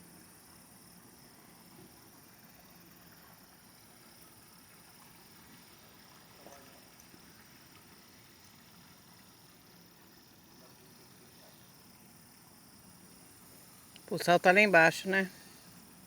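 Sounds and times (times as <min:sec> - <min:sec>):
faint outdoor background hiss: 0:00.0 - 0:16.0.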